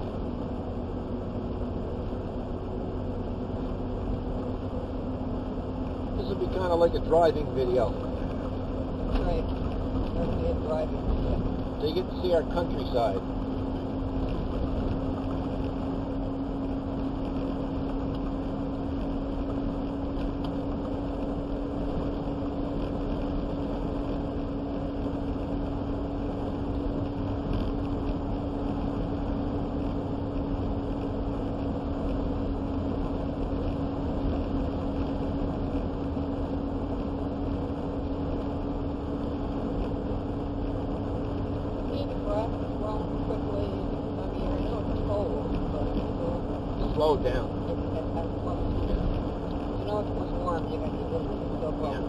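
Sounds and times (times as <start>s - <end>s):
constant low hum: 0.0s - 52.0s
vehicle engine and road noise: 0.0s - 52.0s.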